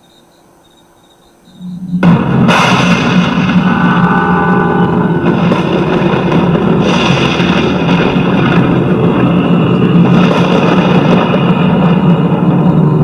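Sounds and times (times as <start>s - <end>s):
eerie music with sound effects: 0.0s - 13.0s
steady low drone: 1.3s - 13.0s.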